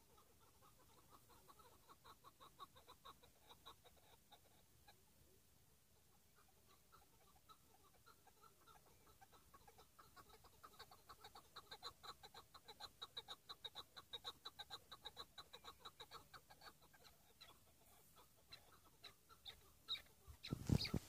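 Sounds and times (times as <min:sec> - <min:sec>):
partridge calling: 0:00.0 - 0:05.0, 0:06.1 - 0:21.0.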